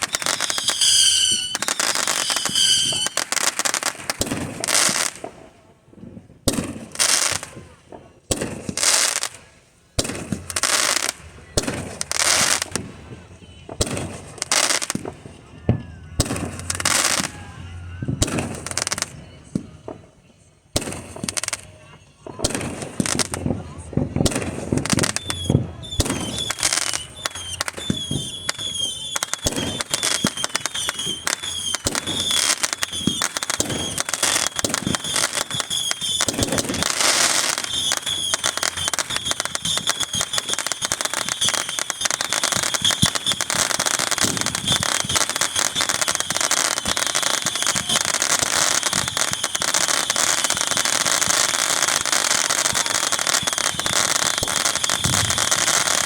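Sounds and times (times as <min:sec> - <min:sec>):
high fireworks squeals: 0:00.0 - 0:05.5, 0:08.4 - 0:56.0
fireworks bangs: 0:00.0 - 0:56.0
fireworks crackling: 0:00.0 - 0:56.0.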